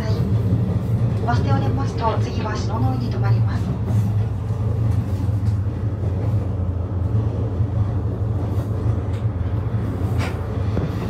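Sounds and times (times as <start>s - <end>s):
railcar low drone: 0.0s - 11.0s.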